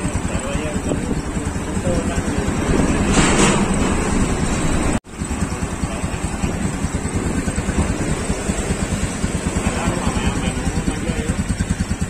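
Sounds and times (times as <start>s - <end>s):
engine running with low pulsing: 0.0s - 12.0s.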